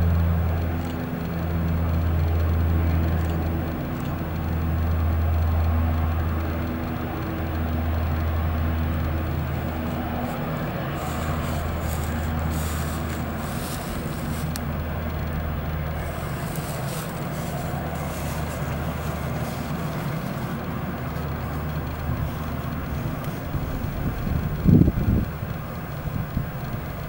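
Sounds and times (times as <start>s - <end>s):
jet engine roaring at takeoff: 0.0s - 27.0s.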